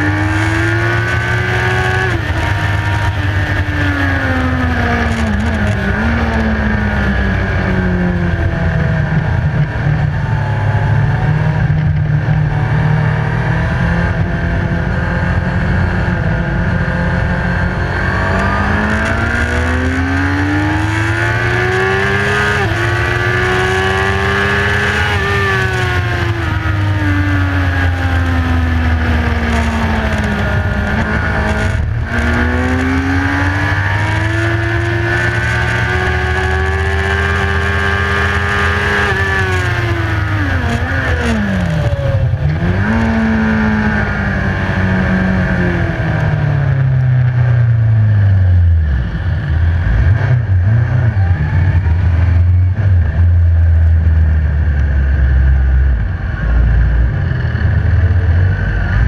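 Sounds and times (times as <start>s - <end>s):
motorbike engine at high revs: 0.0s - 59.0s
rushing wind: 0.0s - 59.0s.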